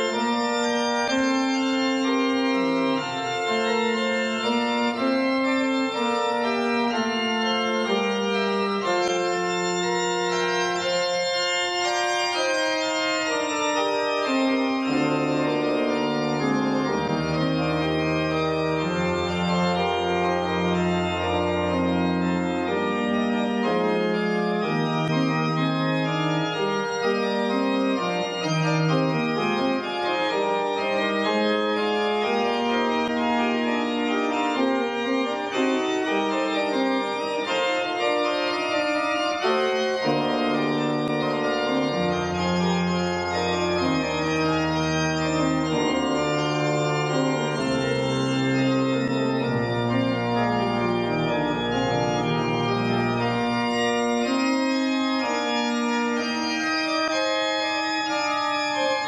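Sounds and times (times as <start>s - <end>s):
organ playing sustained chords: 0.0s - 59.0s.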